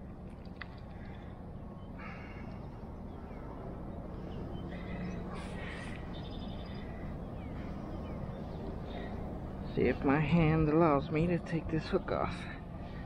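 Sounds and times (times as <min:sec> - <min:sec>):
steady low background noise: 0:00.0 - 0:13.0
birds calling: 0:00.7 - 0:13.0.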